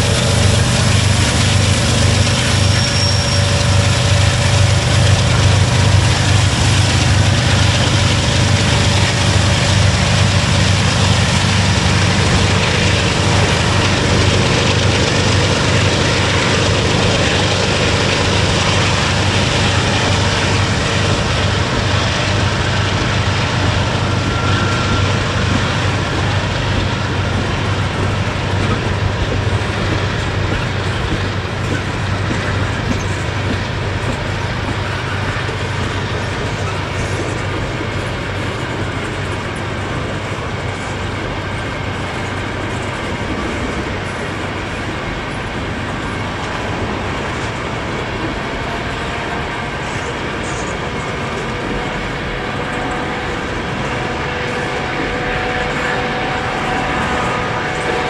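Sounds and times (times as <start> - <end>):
train rolling on rails: 0.0 - 58.0.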